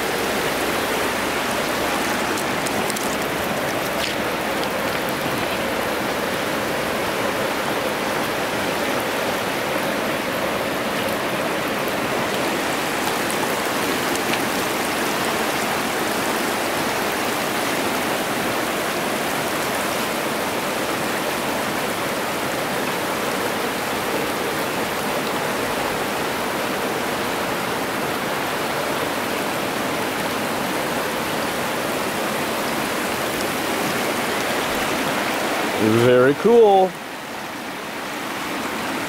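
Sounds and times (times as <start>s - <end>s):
river rushing over rocks: 0.0s - 39.0s.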